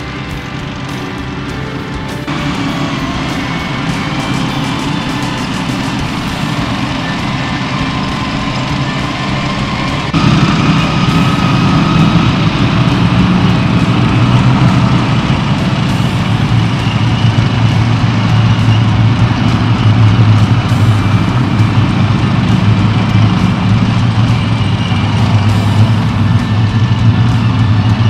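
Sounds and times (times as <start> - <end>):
track squeal: 0.0 - 28.0
tracked vehicle engines rumbling: 0.0 - 28.0.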